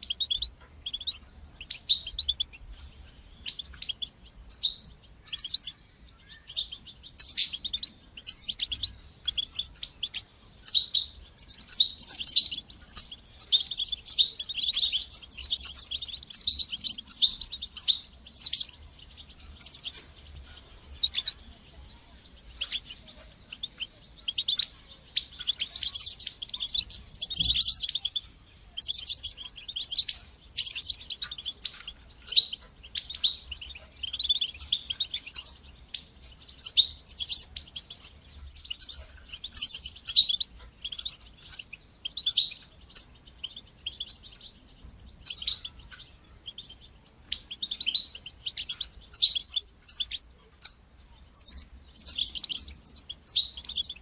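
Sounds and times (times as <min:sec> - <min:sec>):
goldfinch twittering song: 0:00.0 - 0:54.0.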